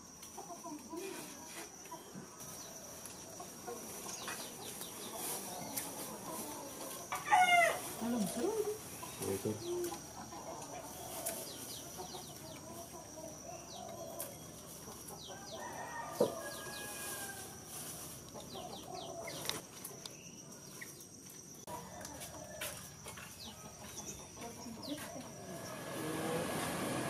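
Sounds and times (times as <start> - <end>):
high insect drone: 0.0 - 27.0
chickens clucking: 0.1 - 27.0
small birds chirping: 0.3 - 7.2, 7.8 - 27.0.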